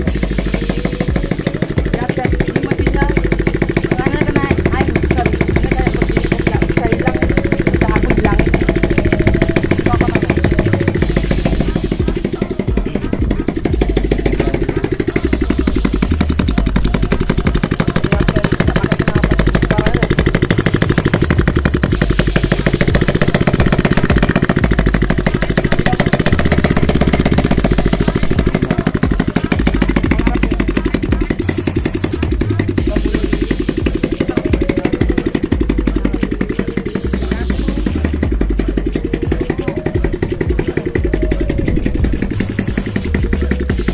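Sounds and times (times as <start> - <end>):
motorcycle engine idling loudly: 0.0 - 43.9.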